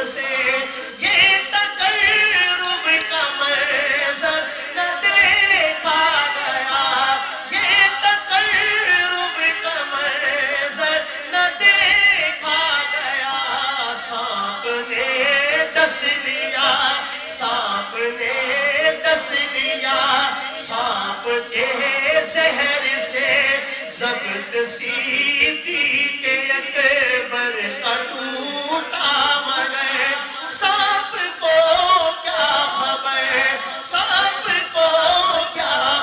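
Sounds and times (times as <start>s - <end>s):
men singing unaccompanied: 0.0s - 36.0s.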